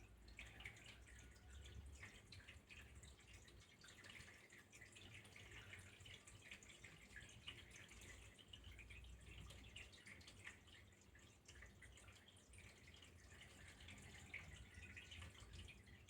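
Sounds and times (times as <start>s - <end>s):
water trickling and dripping: 0.0s - 16.0s.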